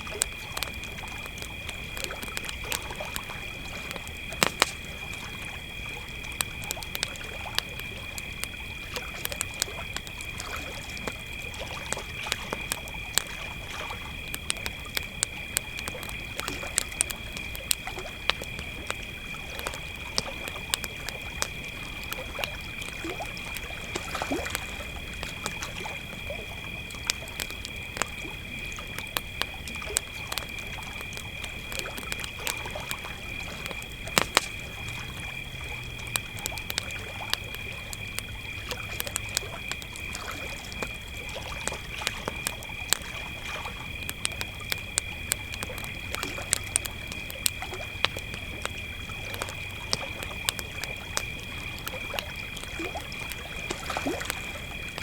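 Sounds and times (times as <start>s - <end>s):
campfire crackling: 0.0s - 55.0s
crickets chirring: 0.0s - 55.0s.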